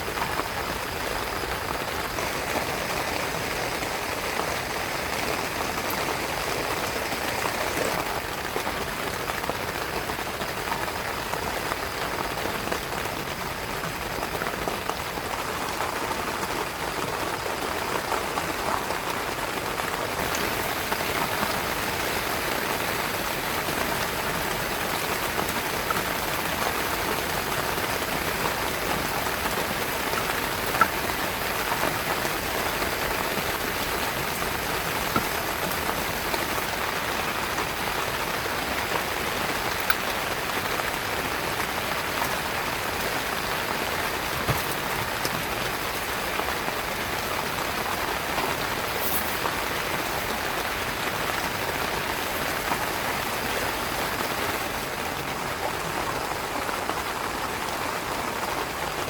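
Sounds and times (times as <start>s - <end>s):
heavy rain on tent fabric: 0.0s - 59.0s.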